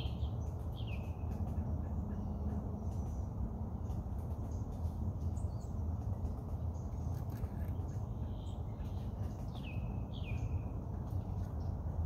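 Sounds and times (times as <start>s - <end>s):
low rumble of breeze: 0.0s - 12.0s
small birds chirping: 0.0s - 12.0s.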